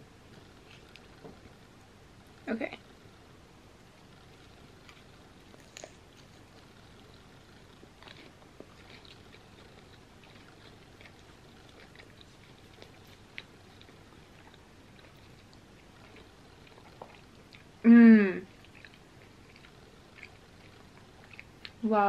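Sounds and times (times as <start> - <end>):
wet chewing sounds: 0.3 - 1.6, 4.0 - 17.8, 18.4 - 22.0.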